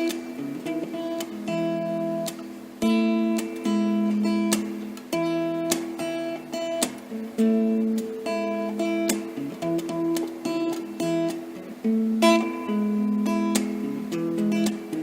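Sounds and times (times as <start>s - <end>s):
acoustic guitar plucked: 0.0s - 15.0s.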